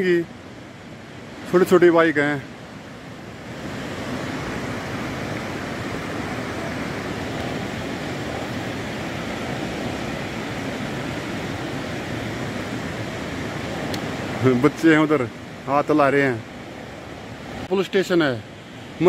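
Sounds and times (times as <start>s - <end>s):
rushing flooded river: 0.0s - 19.0s.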